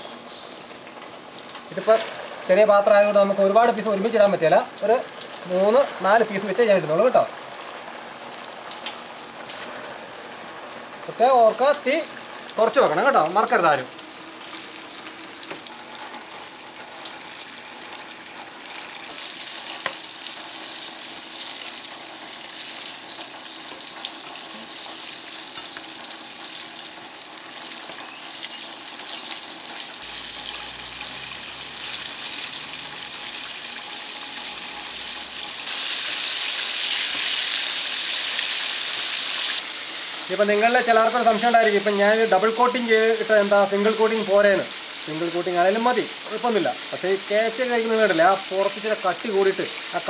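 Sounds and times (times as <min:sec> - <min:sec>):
chicken deep-frying in oil: 0:00.0 - 0:50.0.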